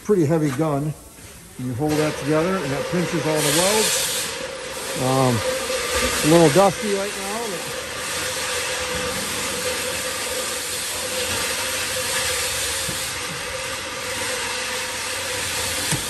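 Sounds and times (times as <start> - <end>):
loud hiss: 0.0 - 16.0.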